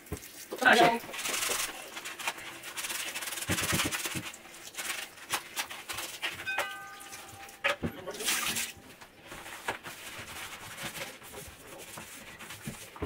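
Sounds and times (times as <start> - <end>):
sponge scrubbing a sink: 0.0 - 6.4, 7.1 - 13.0
tap water running: 0.0 - 13.0.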